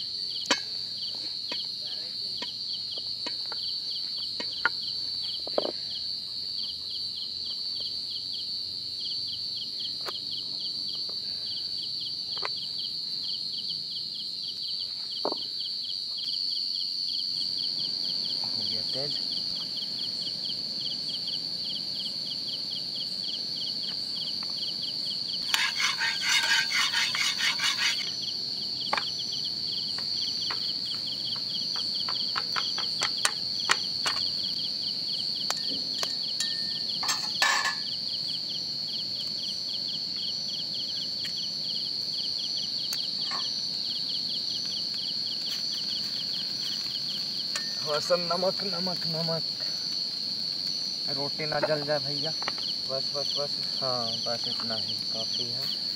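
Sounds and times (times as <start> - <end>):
insect high-pitched trill: 0.0 - 55.9
insect pulsing chirp: 0.0 - 55.9.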